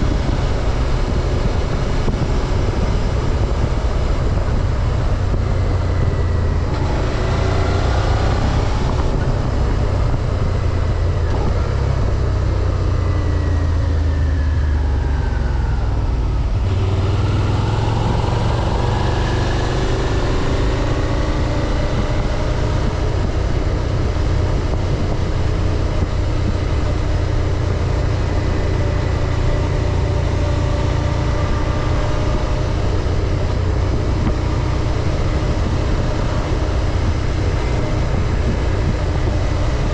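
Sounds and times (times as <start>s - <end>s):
motorcycle engine: 0.0s - 39.9s
wind rumble: 0.0s - 39.9s.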